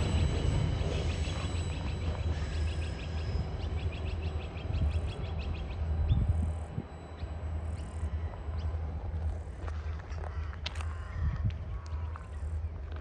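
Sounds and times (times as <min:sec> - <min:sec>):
train wagons rumbling: 0:00.0 - 0:10.7.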